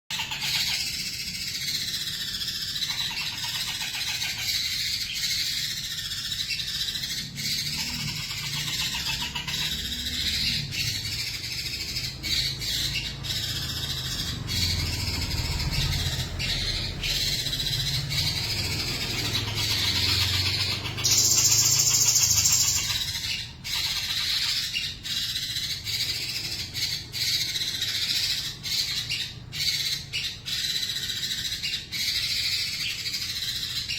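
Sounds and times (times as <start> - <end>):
bird singing warbling phrases: 0.1 - 33.9.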